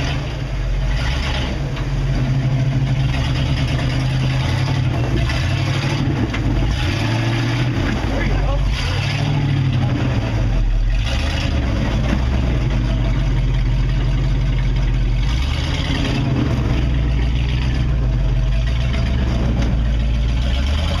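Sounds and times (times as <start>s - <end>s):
truck engine running under load: 0.0s - 21.0s.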